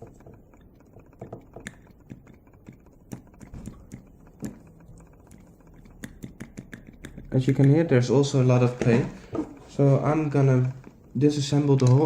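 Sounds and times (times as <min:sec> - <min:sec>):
model engine parts knocking: 0:00.0 - 0:12.0.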